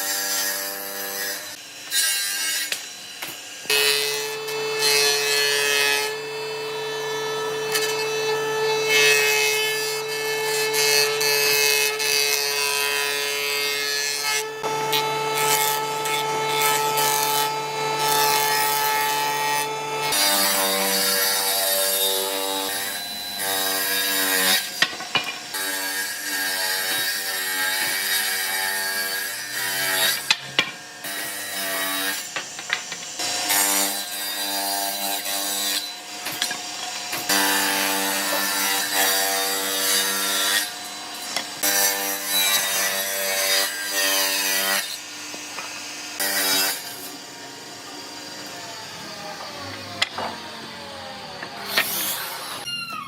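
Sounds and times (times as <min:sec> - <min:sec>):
power tool motor working wood: 0:02.6 - 0:53.0.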